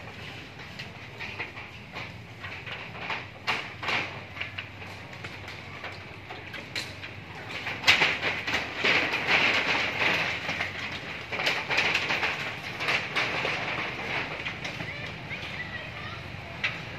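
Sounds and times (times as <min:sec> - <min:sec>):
metal roof sheets rattling and banging: 0:00.0 - 0:16.9.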